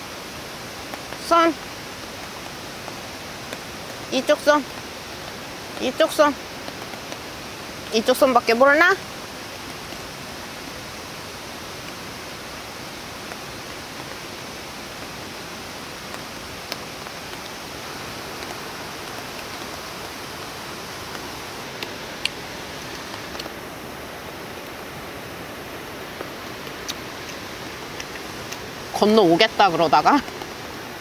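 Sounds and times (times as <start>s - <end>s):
waterfall and stream rushing: 0.0s - 31.0s.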